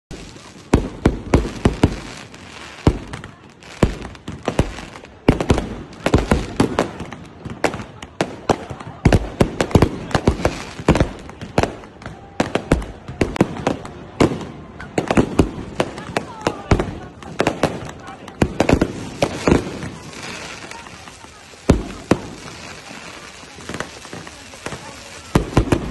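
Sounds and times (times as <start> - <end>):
fireworks bangs and pops: 0.1 - 25.9
loud firework blasts: 0.1 - 25.9.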